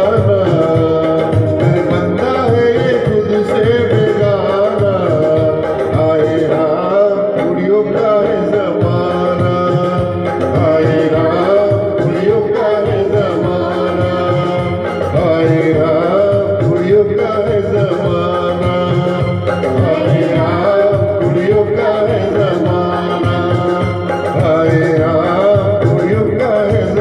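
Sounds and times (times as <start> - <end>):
backing music with steady beat: 0.0 - 27.0
man singing into a microphone: 0.0 - 27.0.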